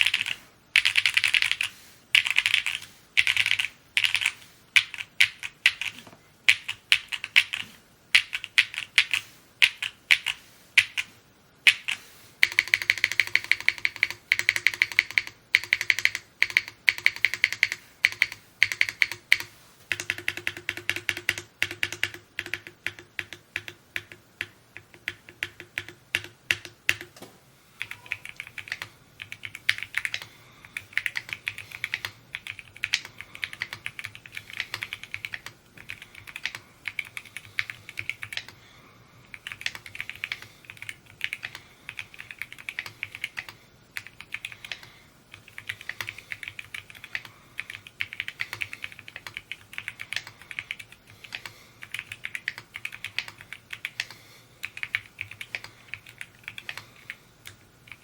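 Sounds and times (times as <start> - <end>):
fast typing on mechanical keyboard: 0.0 - 11.1, 11.7 - 27.1, 27.8 - 38.6, 39.3 - 58.0
faint steady hum: 0.0 - 58.0.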